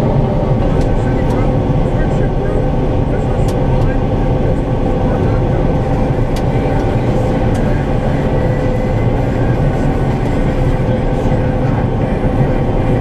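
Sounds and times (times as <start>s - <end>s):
combine harvester engine drone: 0.0s - 13.0s.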